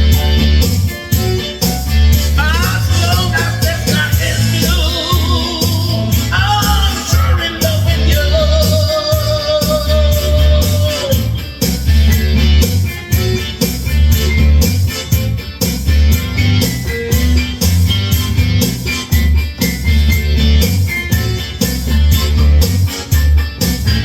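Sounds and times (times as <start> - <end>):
bass and drum beat: 0.0 - 24.0
blues song with guitar: 0.0 - 24.0.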